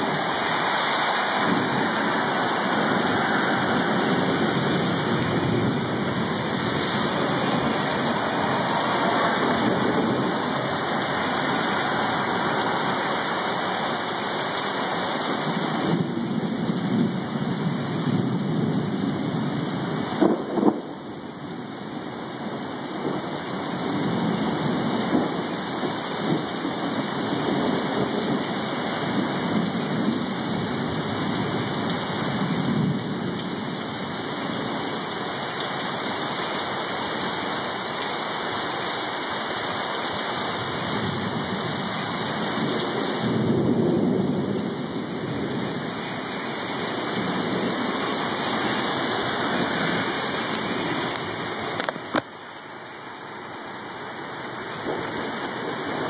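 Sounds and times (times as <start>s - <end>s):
thunder rumbling: 0.0s - 34.8s, 40.6s - 52.2s, 54.7s - 56.0s
heavy rain pouring: 0.0s - 56.0s.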